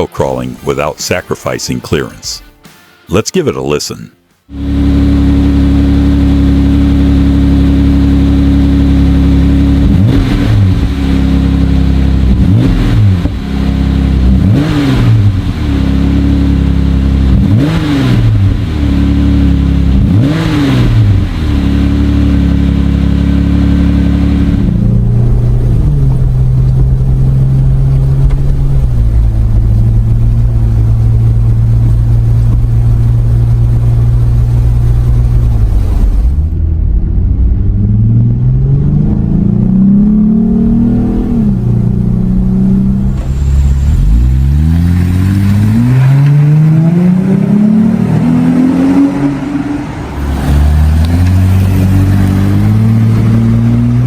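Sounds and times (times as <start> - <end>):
car engine idling and revving: 4.4 - 54.0.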